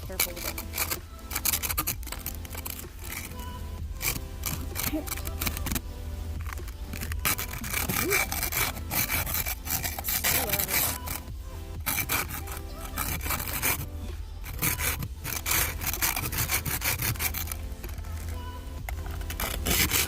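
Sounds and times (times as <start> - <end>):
scraper scraping ice off window: 0.0 - 20.0
steady low hum: 0.0 - 20.0.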